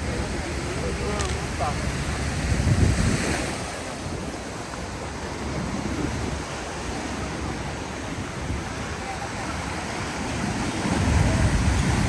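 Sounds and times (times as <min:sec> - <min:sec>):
ocean surf on sandy beach: 0:00.0 - 0:12.0
wind rumbling on microphone: 0:00.0 - 0:12.0.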